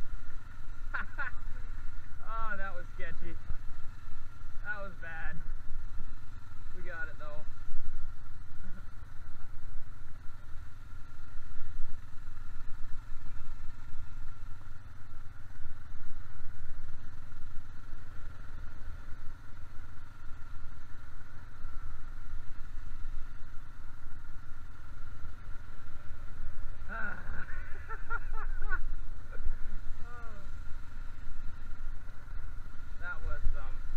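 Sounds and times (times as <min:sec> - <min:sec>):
atv engine running: 0:00.0 - 0:33.9
low rumble over gravel: 0:00.0 - 0:33.9.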